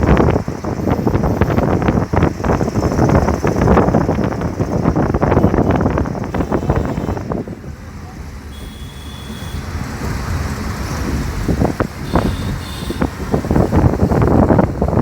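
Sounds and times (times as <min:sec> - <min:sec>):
wind buffeting microphone: 0:00.0 - 0:08.6, 0:09.3 - 0:15.0
road and engine rumble: 0:00.0 - 0:15.0.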